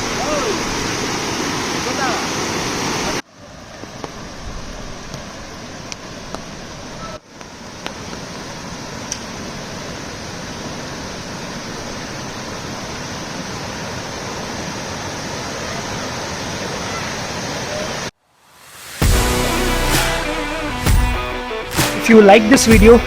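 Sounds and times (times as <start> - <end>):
river rushing: 0.0 - 22.9.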